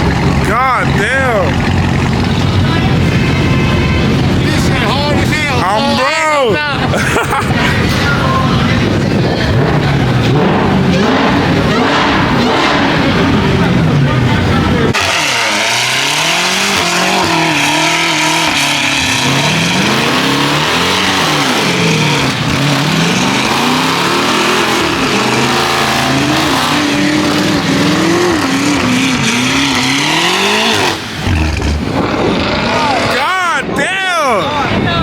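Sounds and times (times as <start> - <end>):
car engine revving: 0.0 - 33.6.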